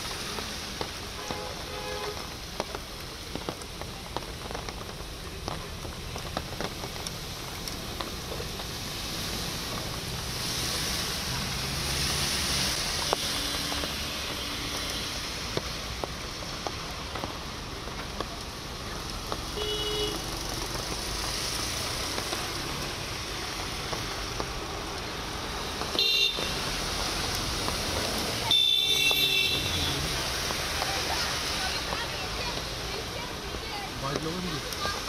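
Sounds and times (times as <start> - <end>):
cars splashing through floodwater: 0.0 - 35.0
rain: 0.0 - 35.0.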